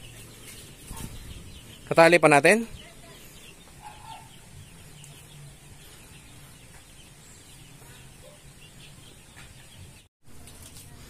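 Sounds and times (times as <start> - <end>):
faint bird chirping: 0.0 - 10.1.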